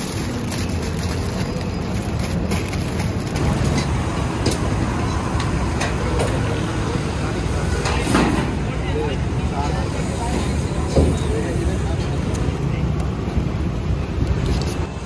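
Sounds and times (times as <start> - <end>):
busy street-food stall rumble: 0.0 - 15.0.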